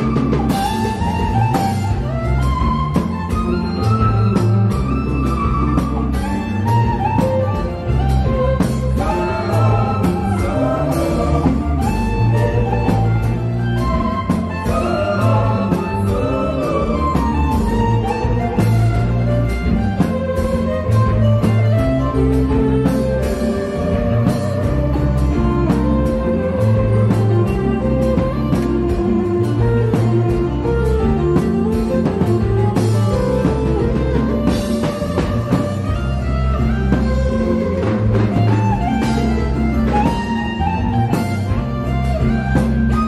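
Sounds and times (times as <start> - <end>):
drum and cymbal beat: 0.0 - 43.0
electric guitars: 0.0 - 43.0
keyboard: 0.0 - 43.0
live band playing: 0.0 - 43.0.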